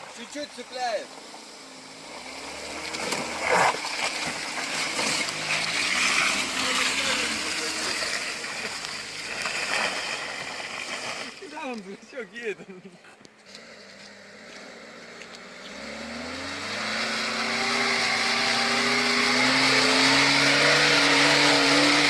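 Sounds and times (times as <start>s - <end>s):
car engine revving: 0.0s - 12.2s, 12.8s - 22.0s
water splashing and rushing: 0.0s - 12.5s, 15.8s - 22.0s.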